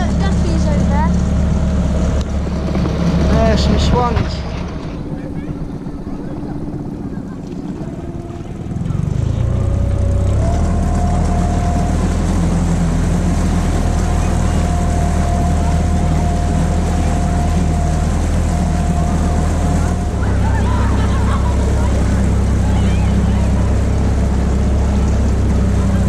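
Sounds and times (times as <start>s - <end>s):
outboard motor running: 0.0s - 26.0s
steady whine: 0.0s - 26.0s.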